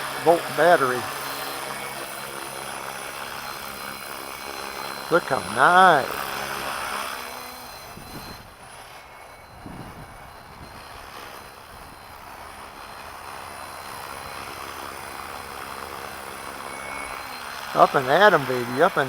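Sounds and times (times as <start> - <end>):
rc helicopter whirring drone: 0.0 - 19.0.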